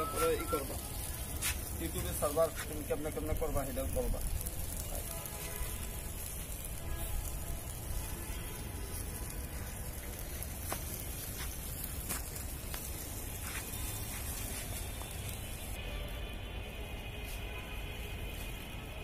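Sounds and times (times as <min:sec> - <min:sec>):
charcoal pops and crackles: 0:00.0 - 0:15.8
fish sizzling over charcoal: 0:00.0 - 0:19.0.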